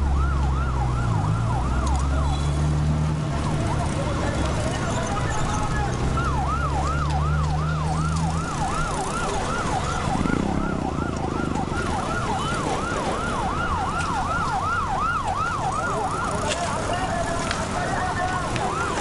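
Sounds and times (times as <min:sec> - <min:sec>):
emergency siren yelping: 0:00.0 - 0:02.5, 0:03.1 - 0:19.0.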